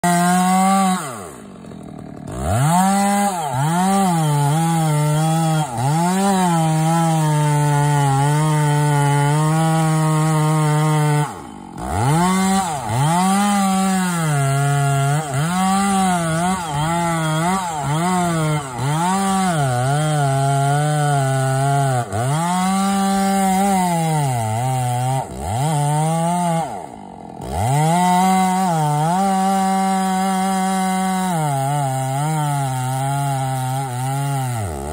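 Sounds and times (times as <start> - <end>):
chainsaw cutting tree: 0.0 - 34.9.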